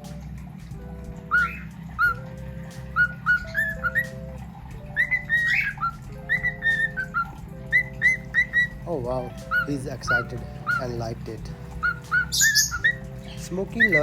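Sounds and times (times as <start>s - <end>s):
soft held accompaniment: 0.0s - 14.0s
whistled melody: 0.0s - 14.0s.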